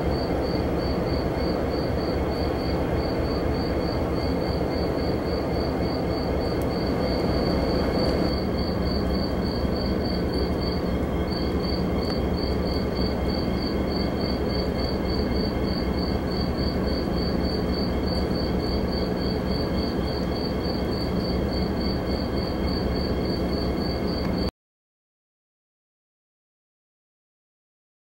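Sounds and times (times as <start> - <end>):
insect chirping: 0.0 - 24.5.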